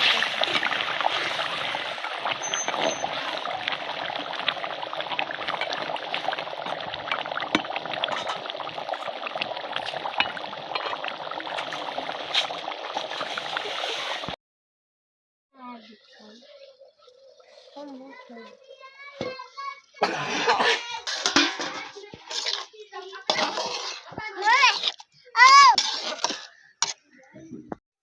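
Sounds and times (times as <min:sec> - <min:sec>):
curry bubbling with crackles: 0:00.0 - 0:14.4, 0:15.6 - 0:27.4.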